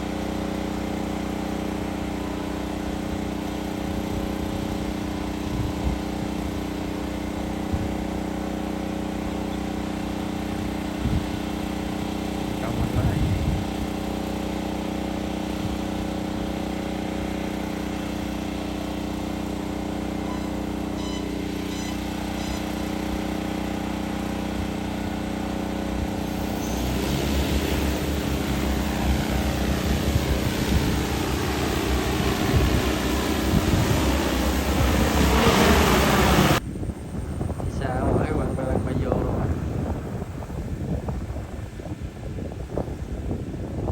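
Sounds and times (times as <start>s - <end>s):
drone rotors humming: 0.0s - 41.4s.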